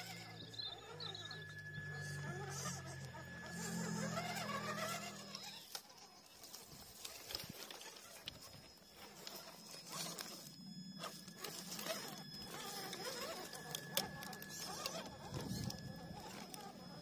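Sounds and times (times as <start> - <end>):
rc car motor whining: 0.0 - 17.0.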